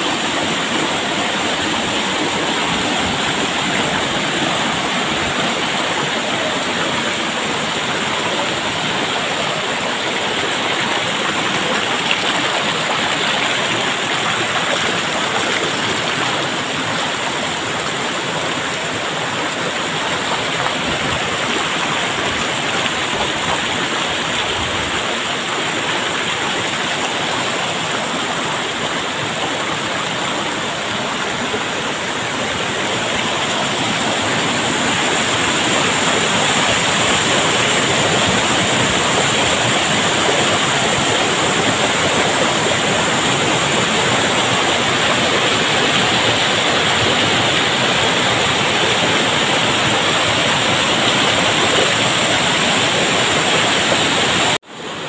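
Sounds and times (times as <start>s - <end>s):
stream rushing over stones: 0.0s - 55.0s.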